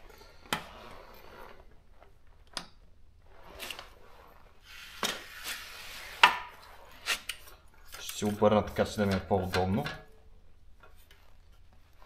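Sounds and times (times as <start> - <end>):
faint rubbing: 0.0 - 9.8.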